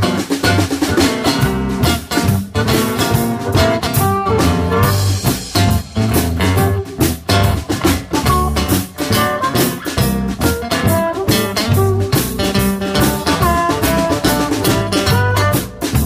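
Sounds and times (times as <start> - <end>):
drum kit: 0.0 - 16.0
electric bass guitar: 0.0 - 16.0.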